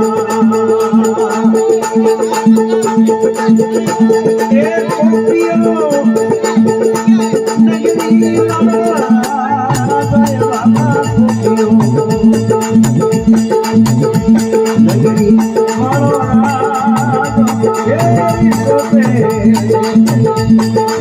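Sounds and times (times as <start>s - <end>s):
hand drum beat: 0.0s - 21.0s
harmonium: 0.0s - 21.0s.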